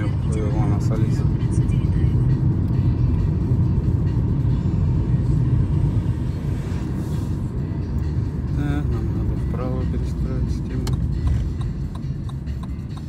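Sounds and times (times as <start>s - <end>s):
car driving road noise: 0.0s - 13.0s
music playing: 0.0s - 13.0s.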